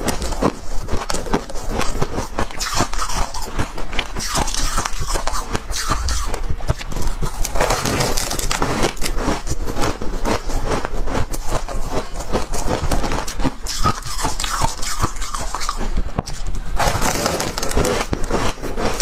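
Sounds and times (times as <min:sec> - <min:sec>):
frost being chewed crunching: 0:00.0 - 0:19.0.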